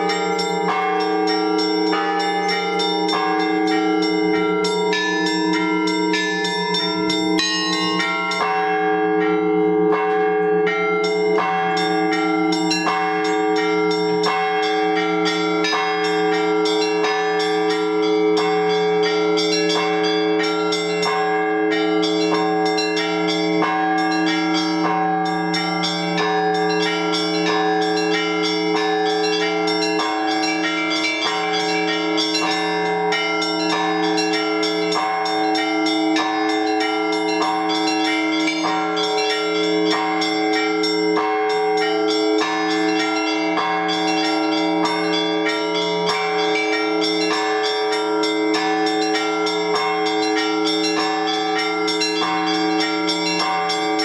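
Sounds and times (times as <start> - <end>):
small bells striking quickly: 0.0 - 8.8, 11.0 - 54.0
deep church bells humming: 0.0 - 54.0.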